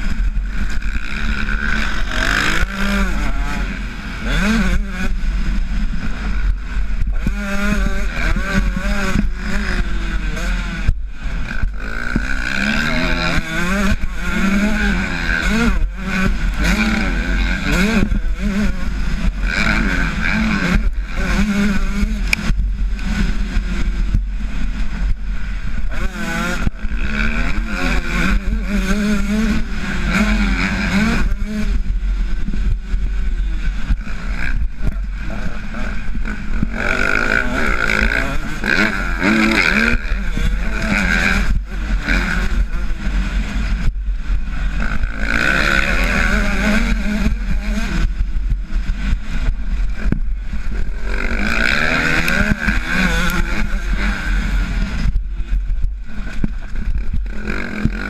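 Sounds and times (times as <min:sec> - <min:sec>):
motocross bike engine revving: 0:00.0 - 0:58.0
wind rumble on microphone: 0:00.0 - 0:58.0.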